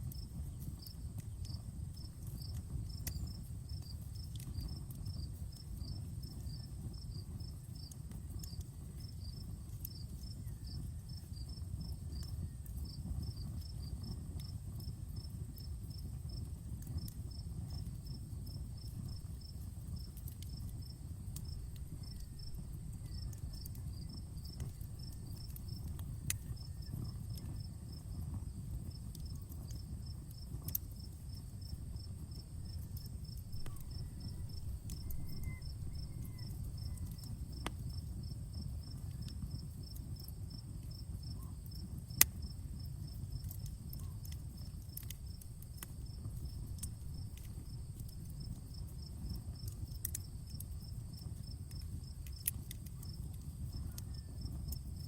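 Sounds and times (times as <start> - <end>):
campfire crackling: 0.0 - 55.0
crickets chirping: 0.1 - 55.0.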